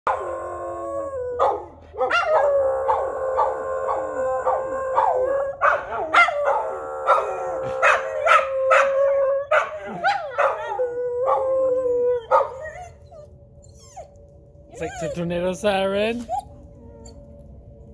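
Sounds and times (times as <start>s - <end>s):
dogs howling and barking: 0.1s - 15.5s
tornado siren wailing: 0.1s - 17.9s.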